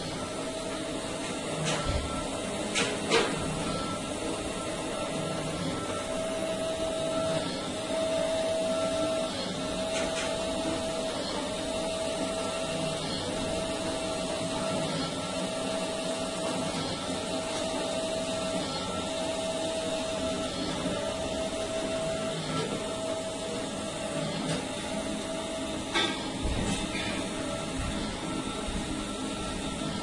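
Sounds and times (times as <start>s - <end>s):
machine motor hum: 0.0s - 30.0s.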